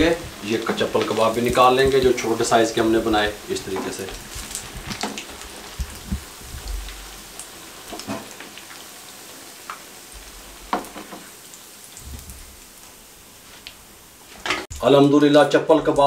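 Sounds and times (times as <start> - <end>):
oil crackling and popping: 0.0 - 15.2
oil sizzling in a pan: 0.0 - 15.2.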